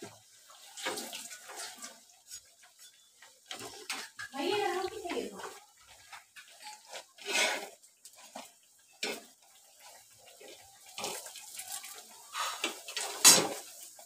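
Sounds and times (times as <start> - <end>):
oil sizzling and bubbling: 0.0 - 14.0
metal spoon scraping pan: 0.5 - 13.9.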